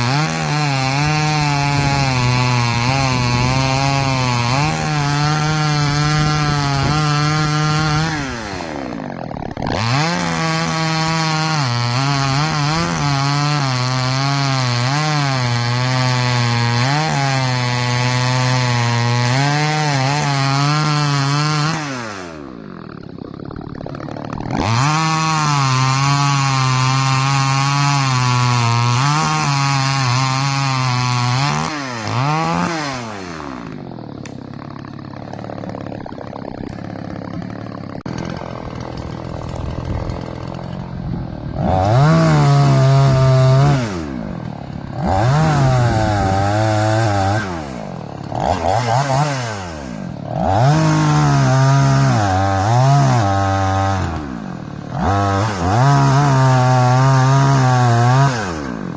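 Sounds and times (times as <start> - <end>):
chainsaw revving and idling: 0.0 - 58.9.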